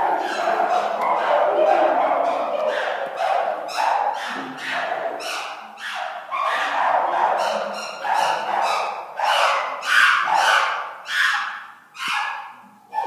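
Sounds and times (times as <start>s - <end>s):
chimpanzees hooting and screaming: 0.0s - 13.0s.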